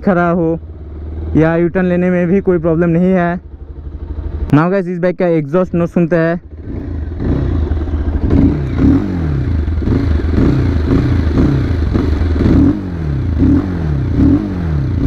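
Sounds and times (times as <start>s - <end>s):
motorcycle engine revving: 0.0s - 4.7s, 6.2s - 15.0s.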